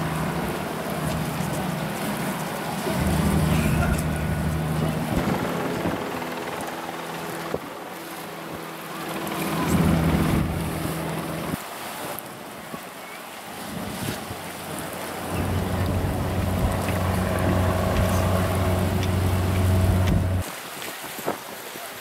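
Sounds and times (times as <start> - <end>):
wind buffeting microphone: 0.0 - 7.8, 9.5 - 11.6, 13.6 - 21.4
motorboat engine humming: 0.0 - 11.9, 13.5 - 20.4.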